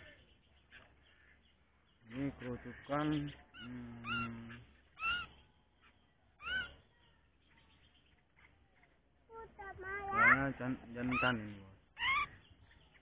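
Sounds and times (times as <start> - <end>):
bird harsh calls: 0.0 - 13.0.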